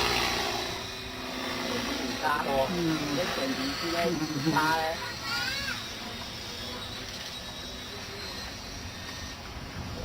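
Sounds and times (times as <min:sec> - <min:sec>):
electric motor whine: 0:00.0 - 0:10.0
rotor and wind rumble: 0:00.0 - 0:10.0.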